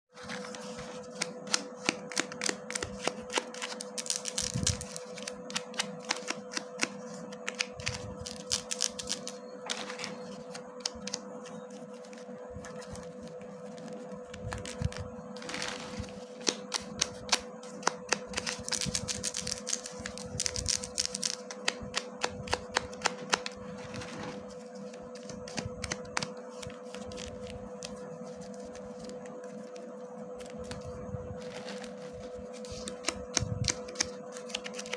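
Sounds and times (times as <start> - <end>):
faint steady hum: 0.2 - 34.9.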